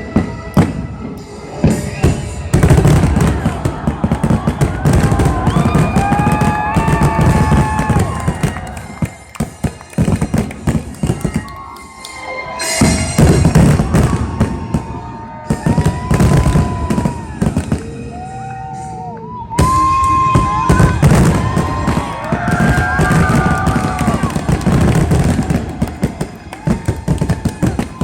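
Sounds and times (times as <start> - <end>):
fireworks bangs and crackling: 0.0 - 18.6, 19.5 - 28.0.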